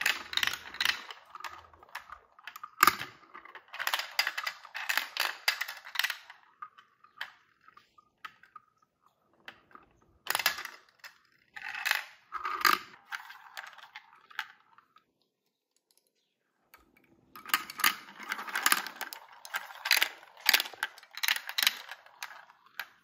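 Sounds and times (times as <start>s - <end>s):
marbles clattering through plastic track: 0.0s - 15.1s, 16.8s - 23.0s.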